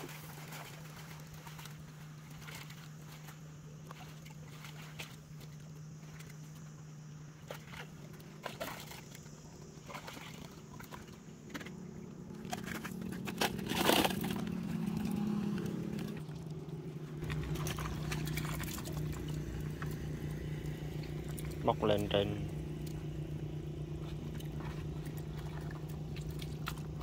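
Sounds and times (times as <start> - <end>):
steady low hum: 0.0 - 27.0
water splashing and sloshing: 0.0 - 27.0.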